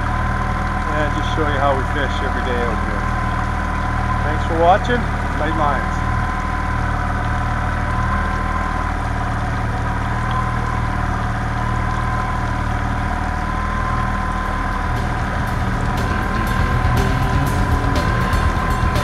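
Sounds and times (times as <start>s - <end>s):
boat engine humming: 0.0s - 19.0s
high engine whine: 0.0s - 19.0s.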